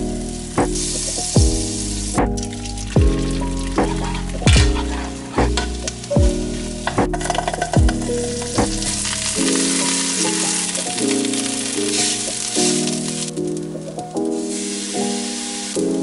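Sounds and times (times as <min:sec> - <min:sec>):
rice sizzling in a frying pan: 0:00.0 - 0:13.6, 0:14.2 - 0:16.0
background music: 0:00.0 - 0:16.0.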